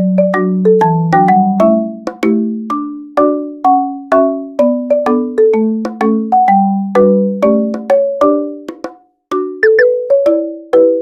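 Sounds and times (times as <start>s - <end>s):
marimba-like mallet melody: 0.0s - 11.0s.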